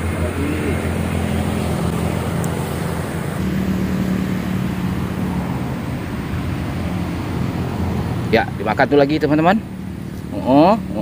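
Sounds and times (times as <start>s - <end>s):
constant low hum: 0.0s - 11.0s
low rumble of motor traffic: 0.0s - 11.0s.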